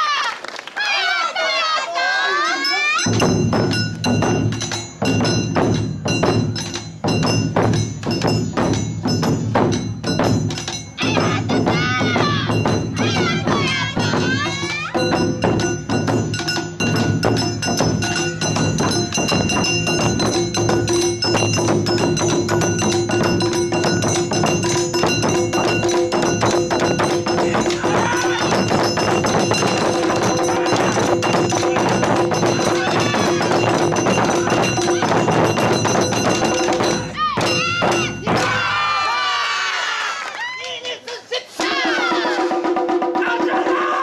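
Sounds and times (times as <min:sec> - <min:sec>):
ringing metallic tones: 0:02.5 - 0:11.8, 0:12.4 - 0:38.4
drums in fast driving rhythm: 0:02.9 - 0:39.3, 0:40.8 - 0:44.0.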